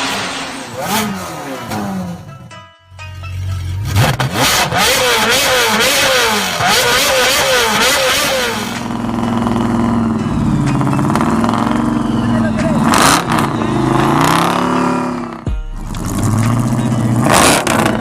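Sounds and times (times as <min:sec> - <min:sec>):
car engine revving: 0:00.0 - 0:02.5, 0:03.3 - 0:18.0.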